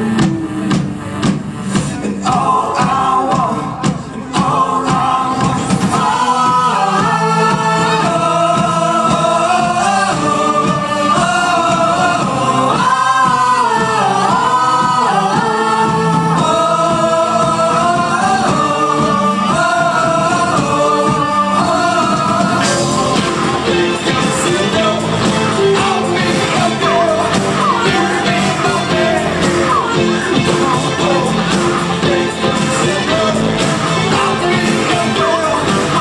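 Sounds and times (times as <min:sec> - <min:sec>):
live band playing: 0:00.0 - 0:36.0.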